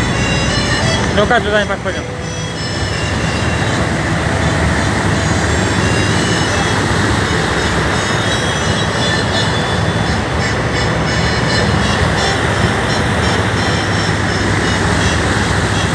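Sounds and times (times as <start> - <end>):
loud rushing noise: 0.0 - 15.9.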